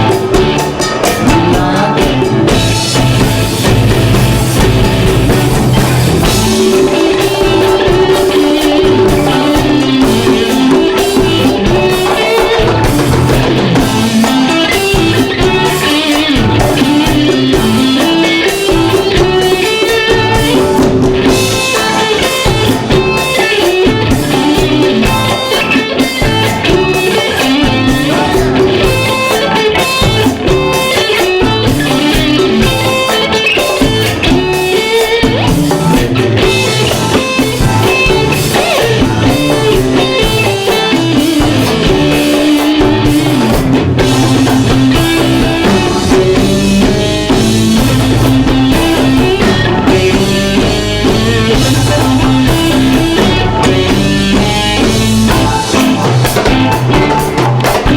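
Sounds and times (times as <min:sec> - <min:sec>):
electric guitar: 0:00.0 - 0:57.9
live rock band playing: 0:00.0 - 0:57.9.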